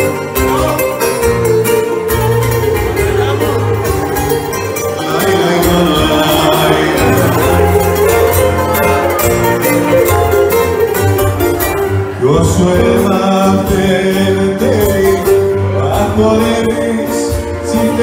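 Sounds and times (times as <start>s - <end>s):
acoustic guitar: 0.0s - 18.0s
keyboard melody sliding up: 0.0s - 18.0s.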